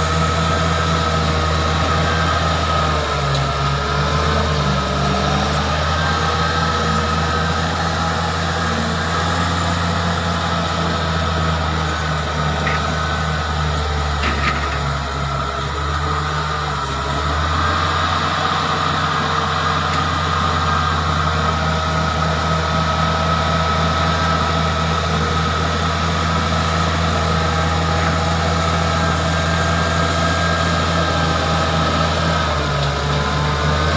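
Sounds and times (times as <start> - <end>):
bulldozer diesel engine running: 0.0 - 33.9
steady engine whine: 0.0 - 33.9.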